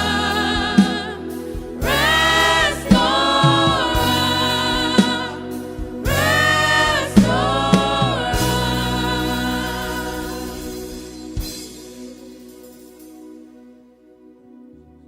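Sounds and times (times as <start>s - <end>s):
choir singing with band: 0.0s - 12.4s.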